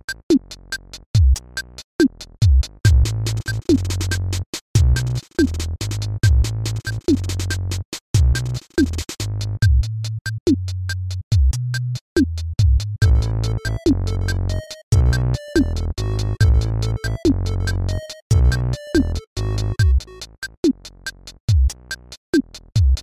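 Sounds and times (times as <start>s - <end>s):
electronic music with drum beat: 0.0s - 23.0s.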